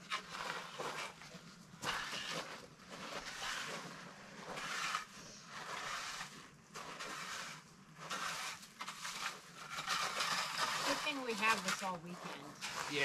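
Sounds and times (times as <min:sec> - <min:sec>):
rake scraping through gravel: 0:00.0 - 0:13.0.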